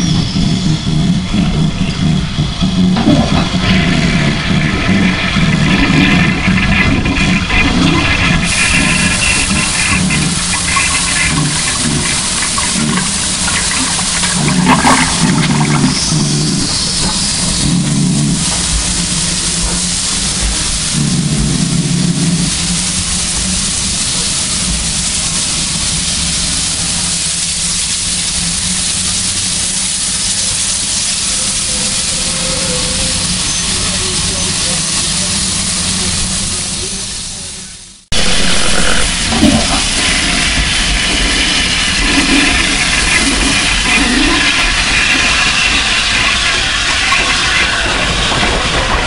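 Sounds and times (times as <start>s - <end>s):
low steam blasts: 0.0s - 49.0s
steam hissing: 0.0s - 49.0s.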